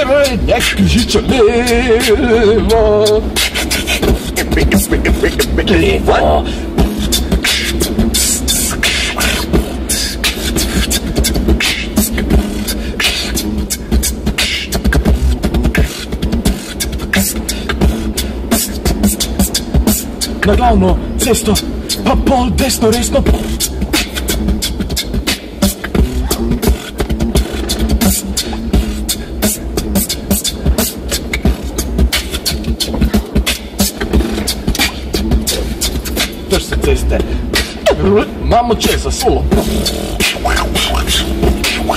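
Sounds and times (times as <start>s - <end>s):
low car cabin drone: 0.0s - 41.9s
person beatboxing: 0.0s - 41.9s
steady low hum: 0.0s - 41.9s.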